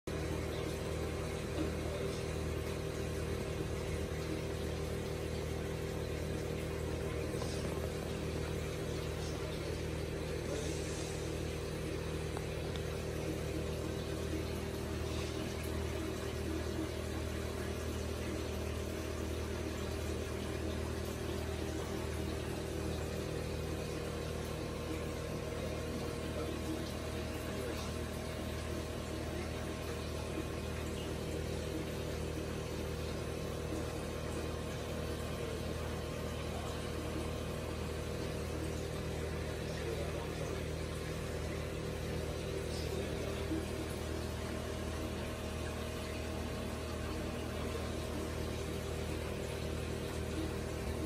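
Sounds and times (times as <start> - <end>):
aquarium pump humming: 0.1 - 51.0.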